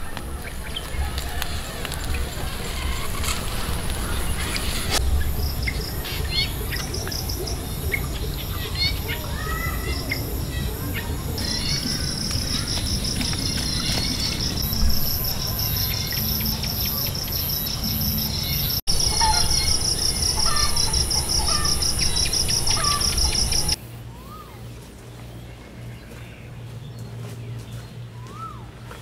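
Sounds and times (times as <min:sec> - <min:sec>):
insects chirping: 0:00.0 - 0:23.8
bird calls: 0:00.0 - 0:24.6
quiet woodland ambience: 0:00.0 - 0:29.0.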